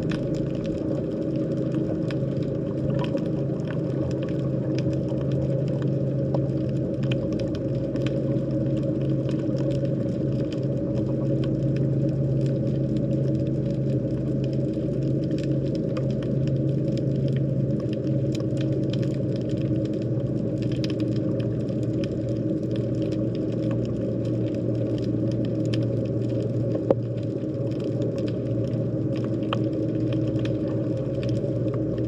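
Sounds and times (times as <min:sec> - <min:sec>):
low underwater hum: 0:00.0 - 0:32.0.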